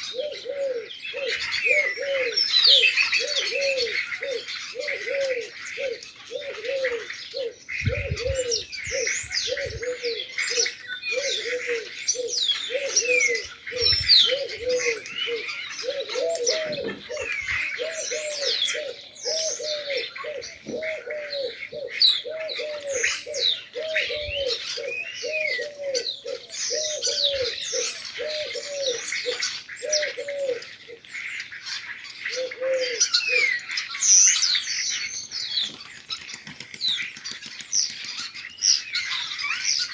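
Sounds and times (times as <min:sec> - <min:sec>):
pigeons cooing: 0:00.0 - 0:39.9
sparrows chirping: 0:00.0 - 0:39.9.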